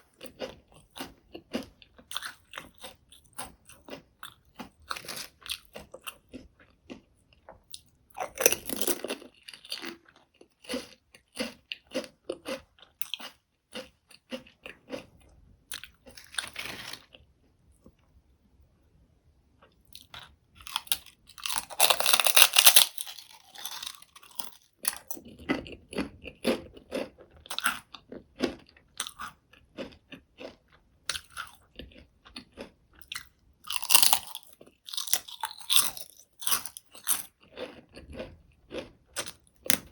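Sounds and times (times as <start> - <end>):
chewing with crackles: 0.0 - 18.1, 19.6 - 39.9
crunching potato chips: 0.1 - 17.3, 20.0 - 39.9.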